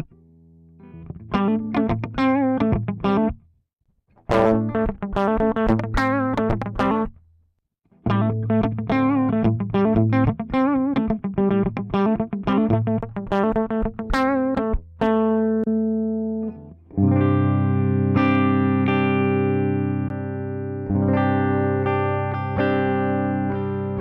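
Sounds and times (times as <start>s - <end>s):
electric guitar riff and chords: 0.8s - 3.4s, 4.2s - 7.1s, 8.1s - 24.0s.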